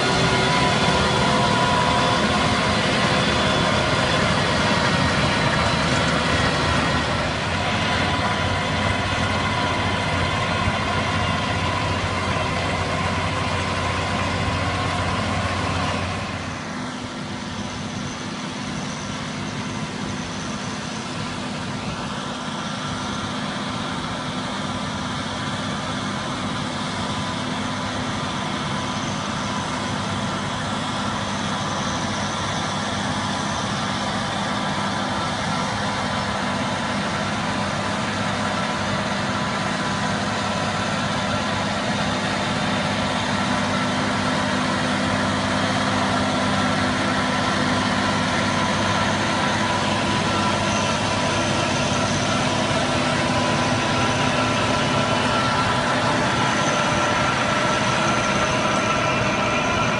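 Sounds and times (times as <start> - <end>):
steady high whine: 0.0 - 59.9
tractor engine under load: 0.0 - 59.9.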